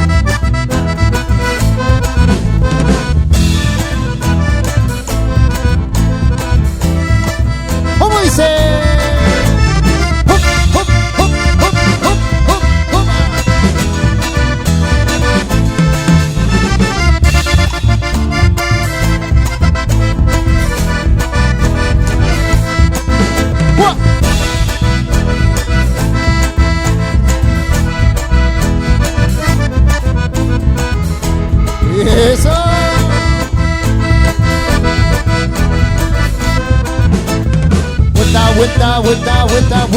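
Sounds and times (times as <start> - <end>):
accordion: 0.0 - 39.9
bass and drums dance beat: 0.0 - 39.9.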